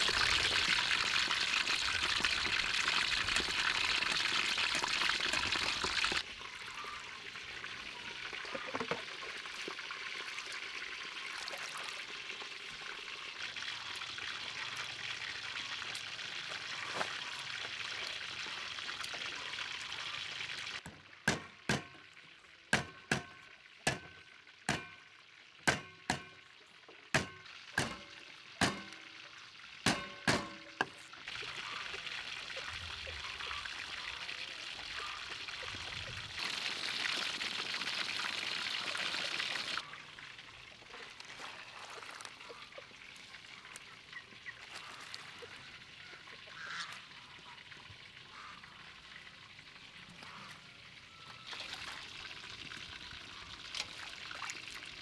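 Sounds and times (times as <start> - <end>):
water splashing in metal basin: 0.0 - 50.3, 51.4 - 55.0.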